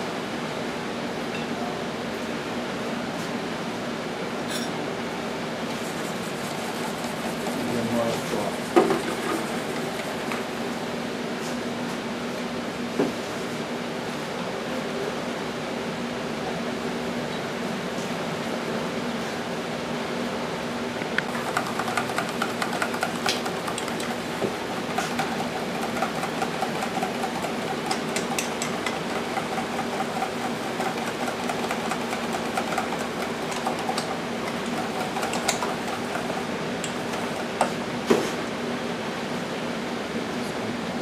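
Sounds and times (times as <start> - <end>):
electric fan humming: 0.0 - 41.0.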